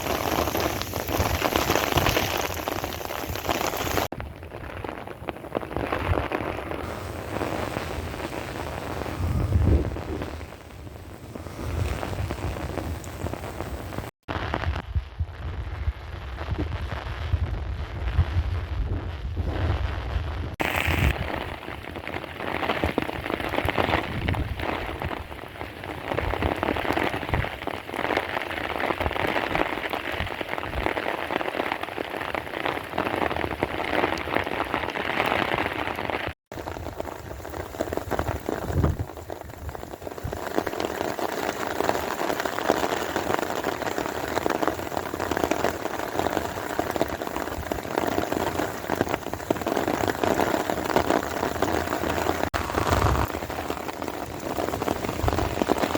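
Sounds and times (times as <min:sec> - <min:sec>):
heavy rain falling: 0:00.0 - 0:14.8, 0:19.8 - 0:55.9.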